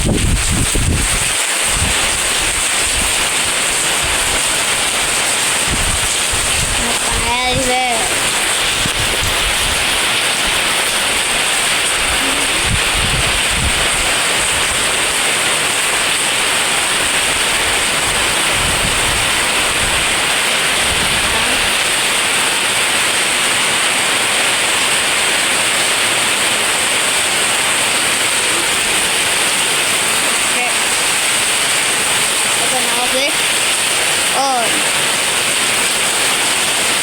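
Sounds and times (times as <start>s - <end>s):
heavy rain hissing: 0.0s - 37.0s
wind gusts hitting microphone: 0.0s - 37.0s.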